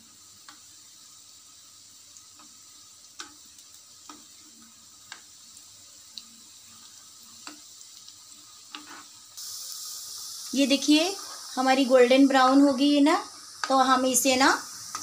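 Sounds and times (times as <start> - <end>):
faint oil sizzle: 0.0 - 15.0.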